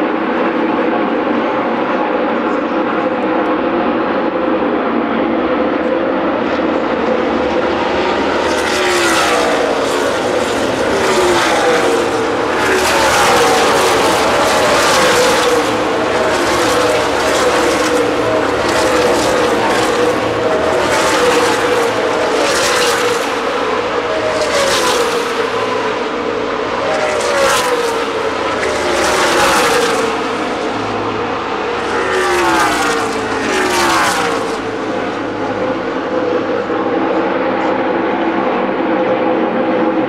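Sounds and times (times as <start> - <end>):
distant drone of racing cars: 0.0 - 40.0
race car engines passing: 0.0 - 40.0.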